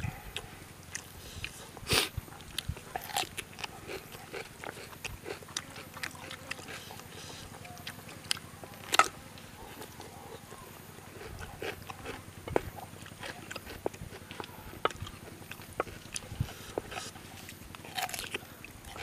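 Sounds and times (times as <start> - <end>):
chewing and lip-smacking: 0.0 - 19.0.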